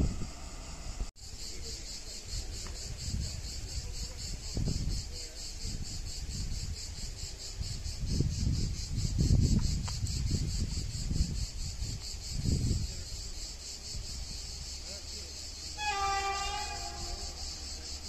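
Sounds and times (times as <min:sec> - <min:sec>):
wind rumbling on microphone: 0:00.0 - 0:01.1, 0:02.3 - 0:18.0
cicadas singing: 0:00.0 - 0:18.0.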